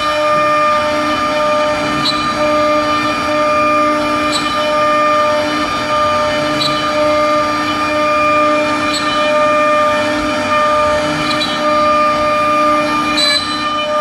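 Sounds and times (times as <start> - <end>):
electric spindle whining: 0.0 - 14.0
router bit rasping wood: 0.0 - 14.0.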